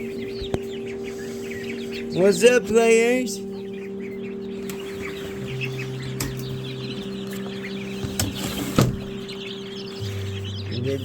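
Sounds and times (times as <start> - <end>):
chickens clucking and chirping: 0.0 - 11.0
steady hum: 0.0 - 11.0.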